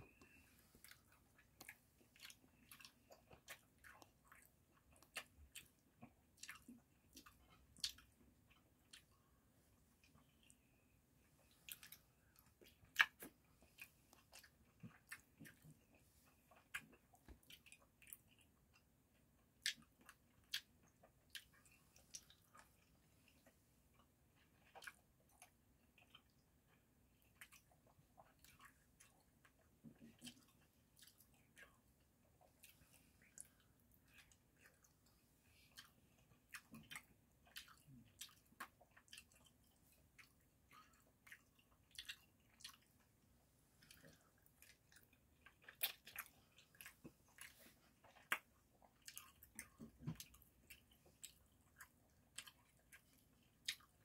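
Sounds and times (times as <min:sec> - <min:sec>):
faint chewing with mouth clicks: 0:00.0 - 0:54.0.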